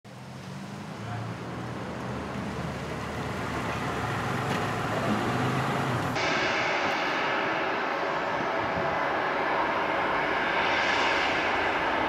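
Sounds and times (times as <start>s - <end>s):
distant engine rumble: 0.1s - 12.0s.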